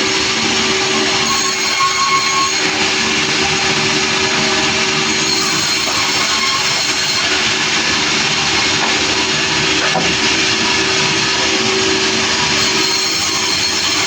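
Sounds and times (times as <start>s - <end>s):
saw cutting timber: 0.0s - 14.0s.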